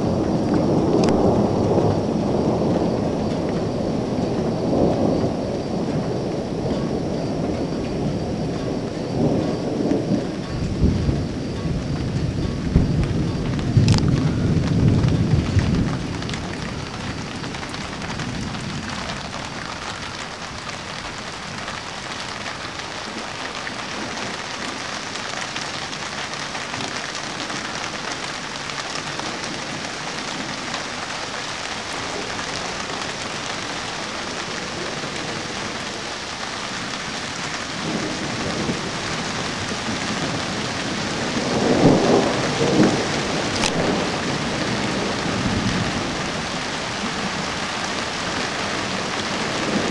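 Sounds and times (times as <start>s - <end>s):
steady rain hissing: 0.0s - 49.9s
thunder rolling: 0.0s - 49.9s.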